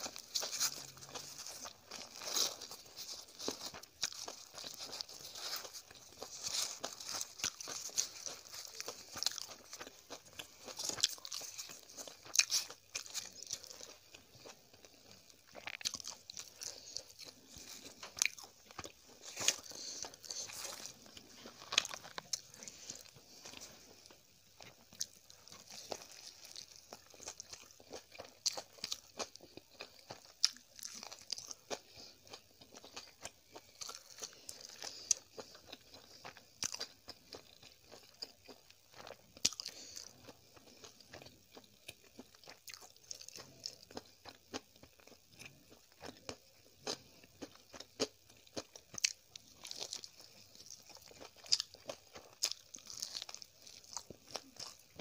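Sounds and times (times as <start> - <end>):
chewing and biting: 0.0 - 55.0.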